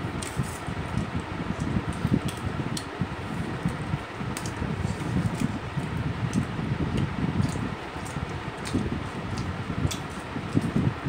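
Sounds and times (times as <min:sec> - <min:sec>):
electric fan whirring: 0:00.0 - 0:11.0.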